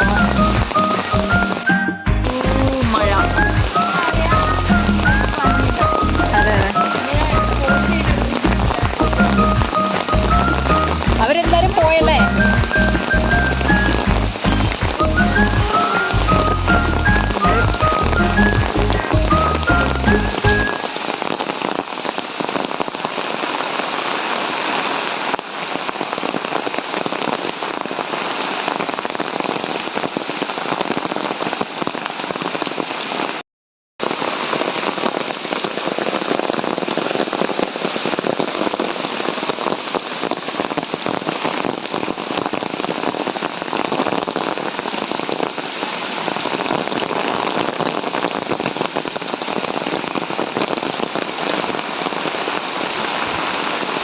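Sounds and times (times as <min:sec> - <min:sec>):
heavy rain falling: 0:00.0 - 0:33.4, 0:34.0 - 0:54.0.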